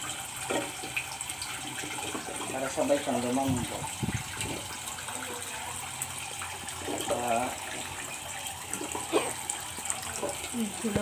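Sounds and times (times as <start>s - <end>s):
faucet running water into a pot: 0.0s - 11.0s.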